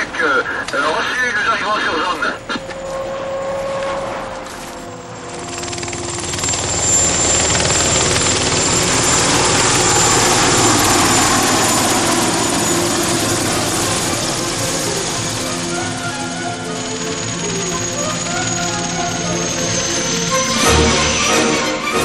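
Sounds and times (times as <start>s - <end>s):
thin high whine: 0.0s - 21.9s
helicopter rotor and turbine: 0.0s - 22.0s.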